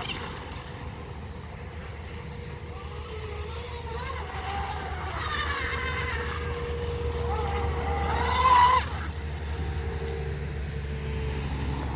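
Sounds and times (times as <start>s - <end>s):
low traffic hum: 0.0s - 11.9s
model boat motor whining: 0.0s - 11.9s.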